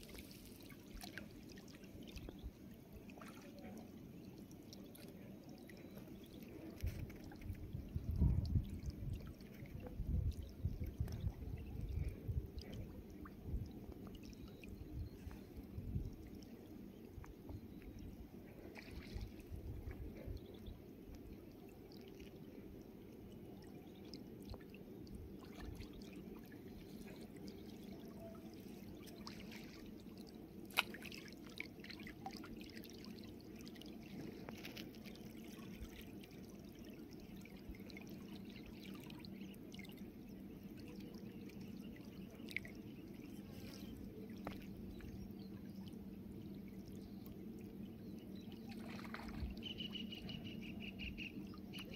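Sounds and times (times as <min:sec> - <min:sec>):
river water lapping and trickling: 0:00.0 - 0:51.9.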